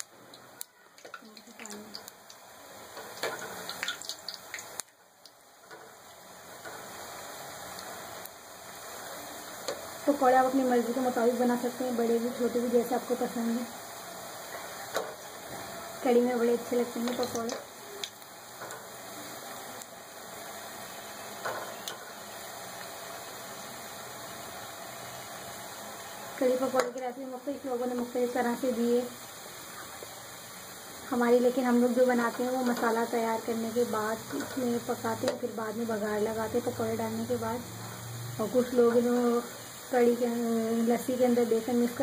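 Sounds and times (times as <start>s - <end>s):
food sizzling in hot oil: 0.0s - 42.0s.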